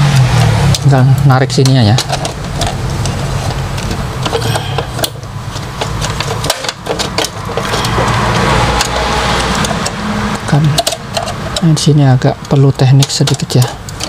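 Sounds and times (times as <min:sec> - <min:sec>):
road traffic: 0:00.0 - 0:14.0
plastic parts clicking: 0:01.5 - 0:14.0.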